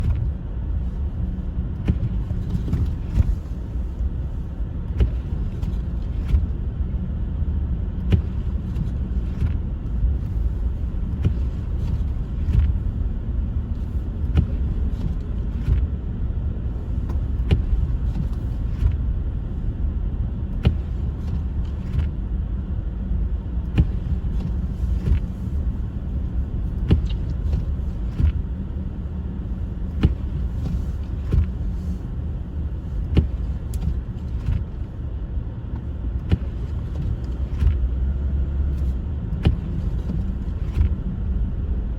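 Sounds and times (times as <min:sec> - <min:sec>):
engine and tyre rumble: 0:00.0 - 0:41.9.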